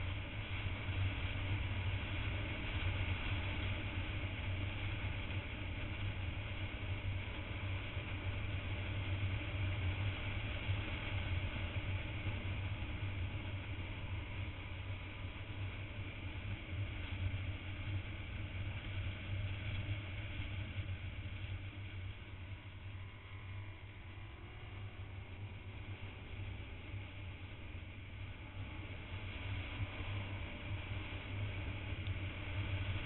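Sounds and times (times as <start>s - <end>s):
motorcycle engine and road noise: 0.0s - 33.0s.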